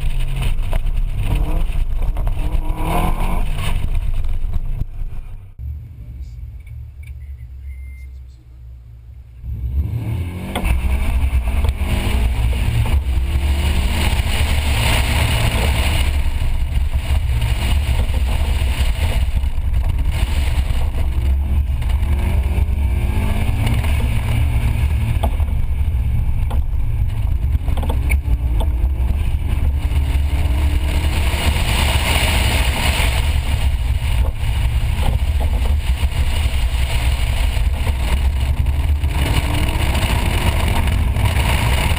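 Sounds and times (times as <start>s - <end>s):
car engine revving hard: 0.0s - 4.4s, 9.4s - 41.9s.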